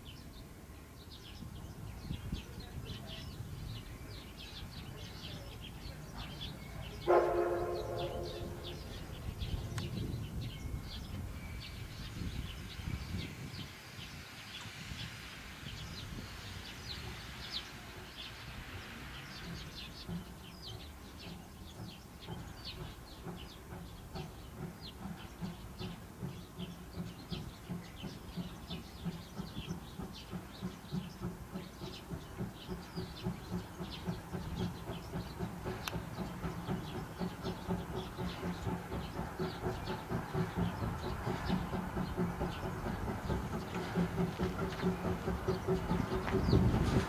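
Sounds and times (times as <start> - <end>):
steam locomotive beat: 1.4 - 47.0.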